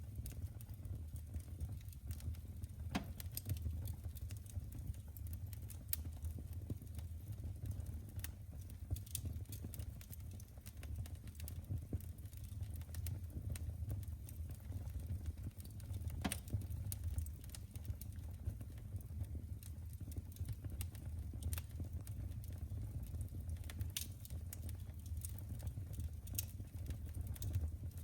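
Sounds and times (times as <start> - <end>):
fire crackling: 0.0 - 28.0.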